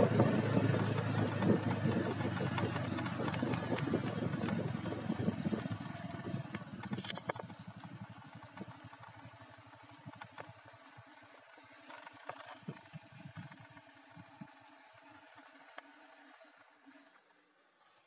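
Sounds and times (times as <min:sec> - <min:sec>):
motorcycle engine rumbling: 0:00.0 - 0:16.7.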